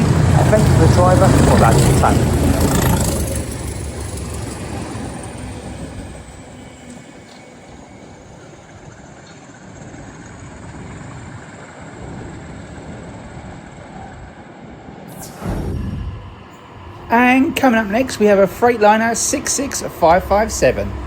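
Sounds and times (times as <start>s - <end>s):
diesel locomotives rumbling: 0.0s - 21.0s
rail noise: 0.0s - 21.0s.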